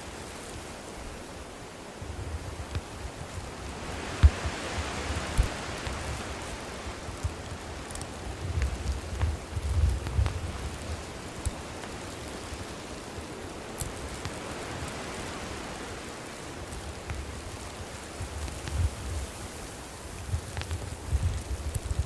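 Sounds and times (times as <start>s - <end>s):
campfire hissing and crackling: 0.0s - 22.0s.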